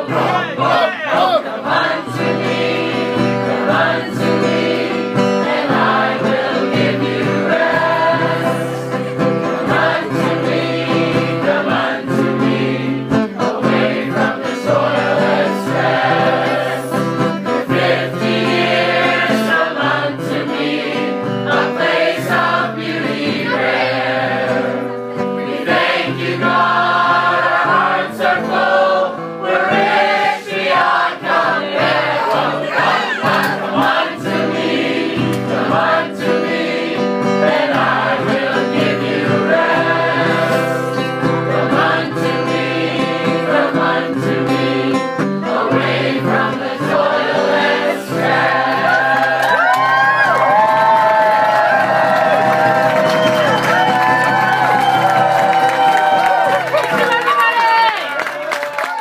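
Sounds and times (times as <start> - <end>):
group singing a hymn: 0.0 - 49.7.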